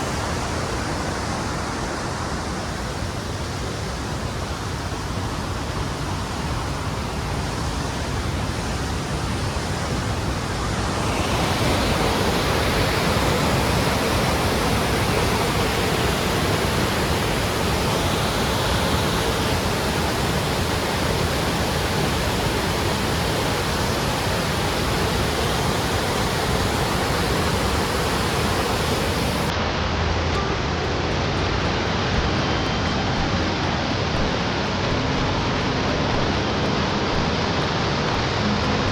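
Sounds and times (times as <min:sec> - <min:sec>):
waterfall rushing: 0:00.0 - 0:29.8, 0:31.2 - 0:38.9.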